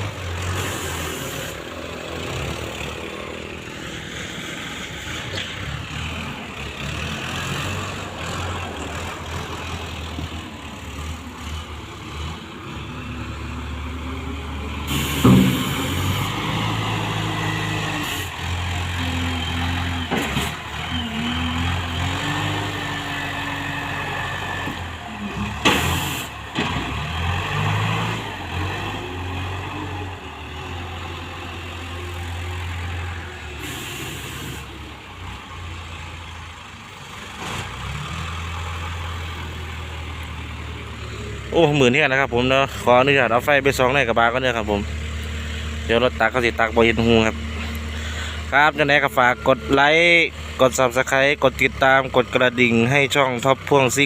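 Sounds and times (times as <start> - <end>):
diesel truck engines running: 0.0 - 54.0.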